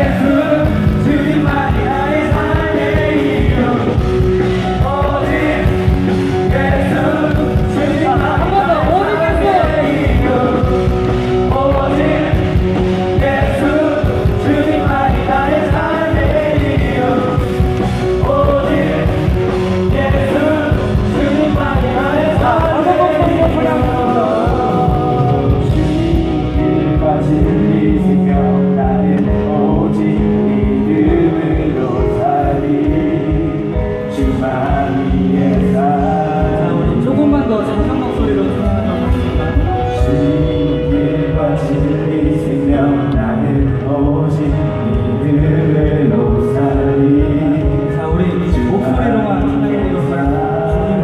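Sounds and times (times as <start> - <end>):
amplified singing: 0.0 - 51.0
live band music: 0.0 - 51.0
steady drum beat: 0.0 - 51.0.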